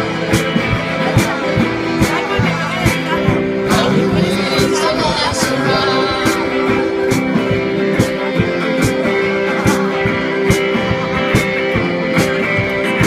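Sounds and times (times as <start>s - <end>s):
band playing live: 0.0s - 13.0s
guitar: 0.0s - 13.0s
steady drum beat: 0.0s - 13.0s.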